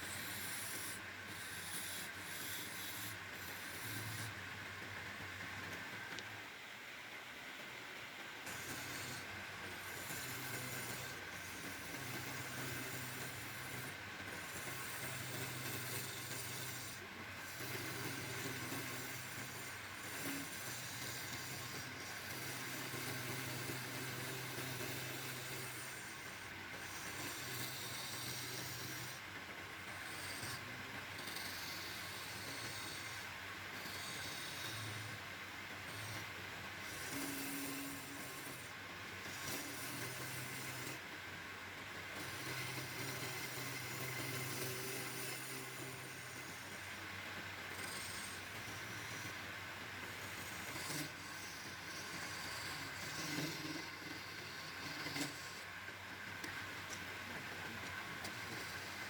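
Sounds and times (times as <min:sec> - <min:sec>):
woodturning lathe humming and hissing: 0:00.0 - 0:59.0.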